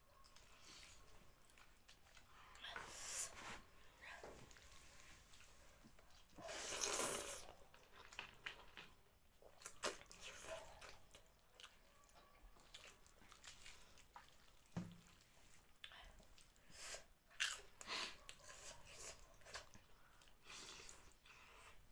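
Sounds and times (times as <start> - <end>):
wet chewing: 0.2 - 2.7, 4.5 - 21.9.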